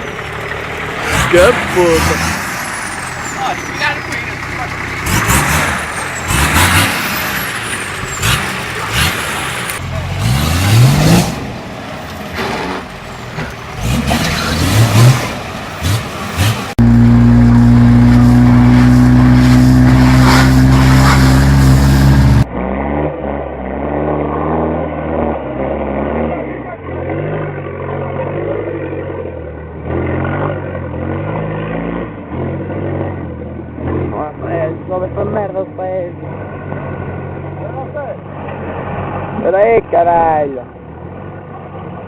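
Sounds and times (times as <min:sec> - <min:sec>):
off-road vehicle engines revving: 0:00.0 - 0:42.0.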